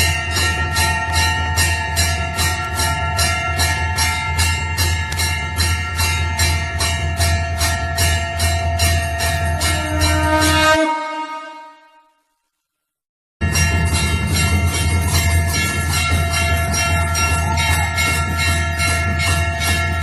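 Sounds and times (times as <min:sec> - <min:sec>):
temple bell ringing rapidly: 0:00.0 - 0:11.9, 0:13.4 - 0:20.0.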